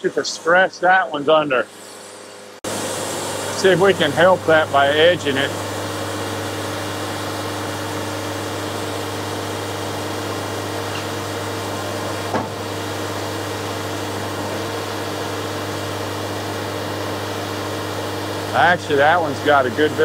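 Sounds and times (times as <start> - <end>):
sawmill diesel engine running: 0.0 - 20.0.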